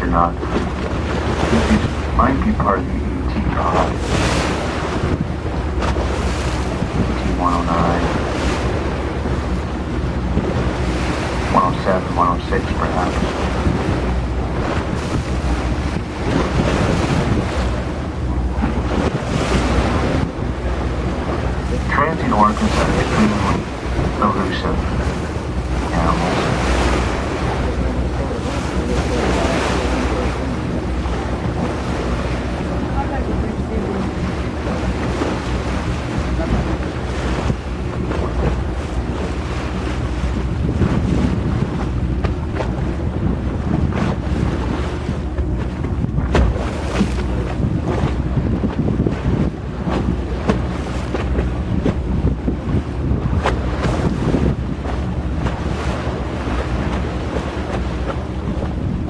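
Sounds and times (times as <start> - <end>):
steady low rumble: 0.0 - 59.0
water washing against hull: 0.0 - 59.0
wind buffeting microphone: 0.0 - 59.0.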